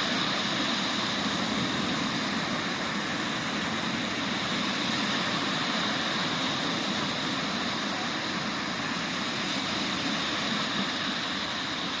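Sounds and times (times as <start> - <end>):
surf rushing on shore: 0.0 - 12.0.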